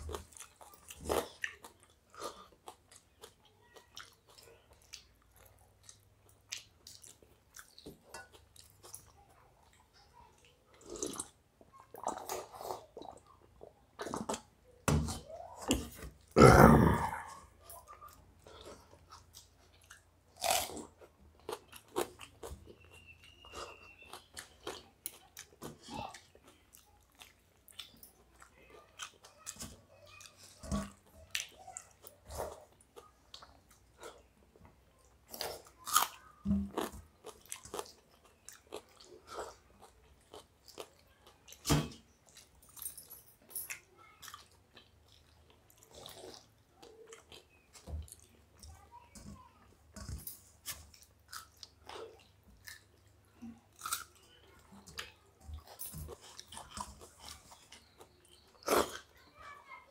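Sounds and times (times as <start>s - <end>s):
person chewing and crunching: 0.0s - 9.8s, 10.4s - 14.5s, 16.2s - 34.4s, 35.1s - 48.8s, 50.0s - 59.2s.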